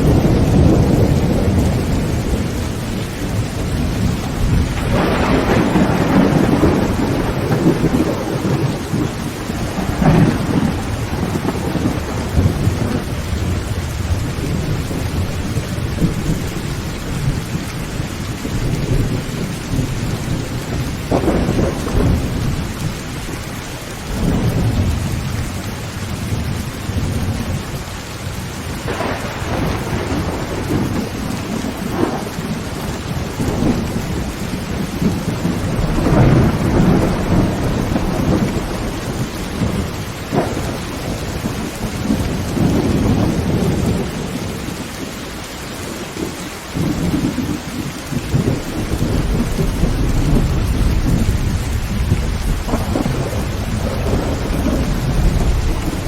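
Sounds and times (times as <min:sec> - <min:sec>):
heavy rain on a tin roof: 0:00.0 - 0:56.0
thunder rumbling: 0:00.0 - 0:56.0.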